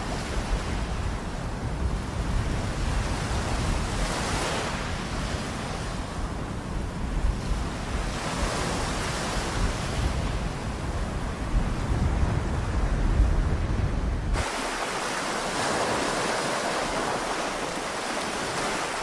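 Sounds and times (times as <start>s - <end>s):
small waves washing onto beach: 0.0s - 19.0s
wind rumbling on microphone: 0.0s - 19.0s.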